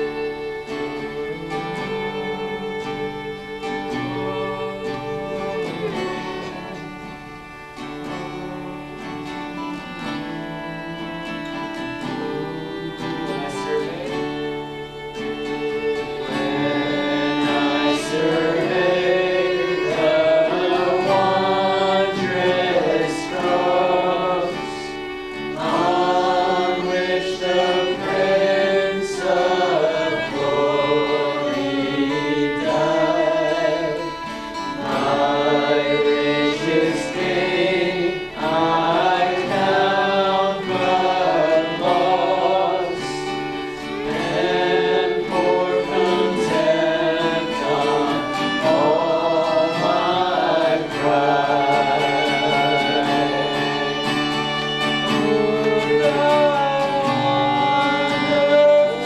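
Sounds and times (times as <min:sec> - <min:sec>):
group singing a hymn: 0:00.0 - 0:59.0
instrumental accompaniment: 0:00.0 - 0:59.0.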